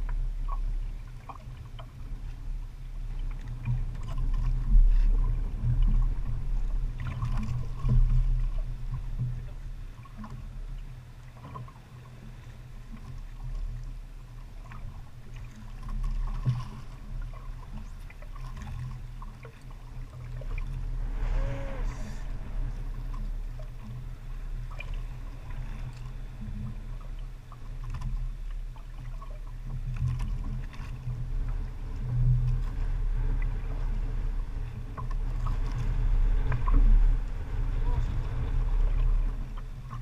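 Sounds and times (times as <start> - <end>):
small boat engine running: 0.0 - 40.0.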